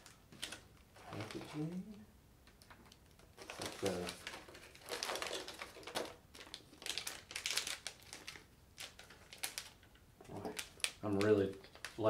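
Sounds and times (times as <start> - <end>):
plastic packaging crinkling: 0.0 - 1.9, 2.5 - 12.0.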